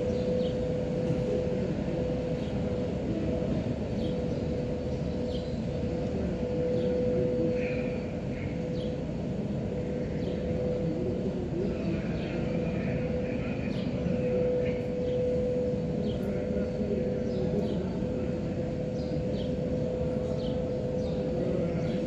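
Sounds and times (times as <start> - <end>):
mechanical hum and rumble: 0.0 - 22.0.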